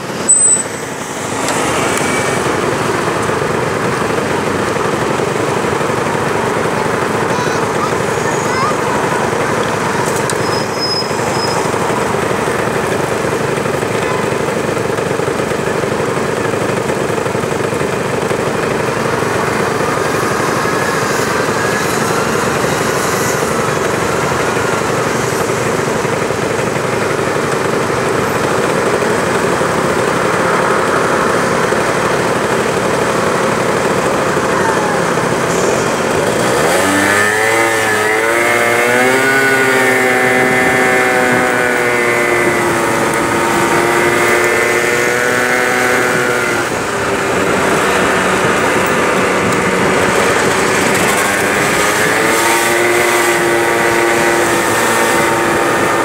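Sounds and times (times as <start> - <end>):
scooter engine idling and revving: 0.0 - 56.0
street traffic: 0.0 - 56.0.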